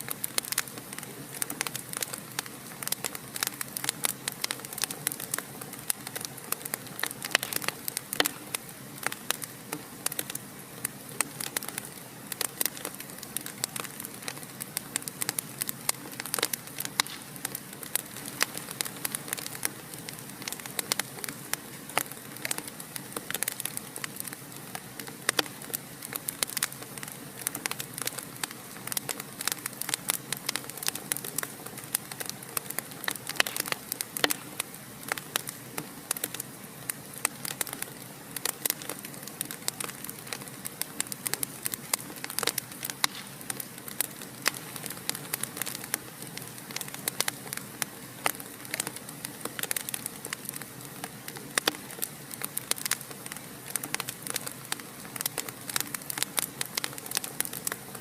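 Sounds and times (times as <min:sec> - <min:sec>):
fire crackling and popping: 0:00.0 - 0:58.0
soft hiss of fire: 0:00.0 - 0:58.0.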